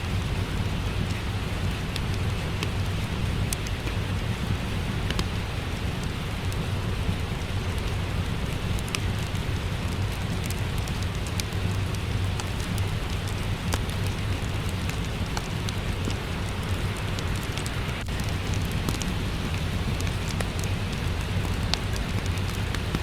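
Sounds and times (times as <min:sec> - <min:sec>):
steady rain: 0:00.0 - 0:23.0
wood fire crackling and popping: 0:00.0 - 0:23.0.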